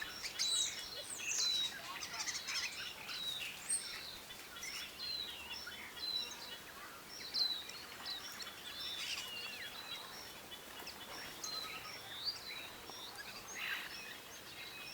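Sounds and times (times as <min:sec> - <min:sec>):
steady outdoor hiss: 0:00.0 - 0:14.9.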